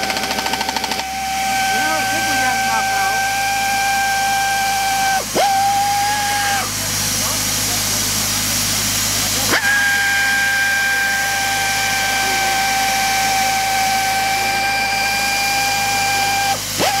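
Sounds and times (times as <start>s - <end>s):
pneumatic drill whining: 0.0s - 17.0s.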